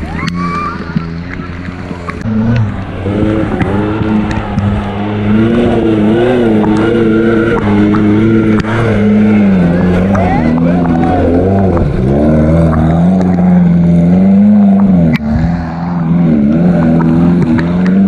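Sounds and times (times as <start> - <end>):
off-road vehicle engine under load: 0.0 - 18.0.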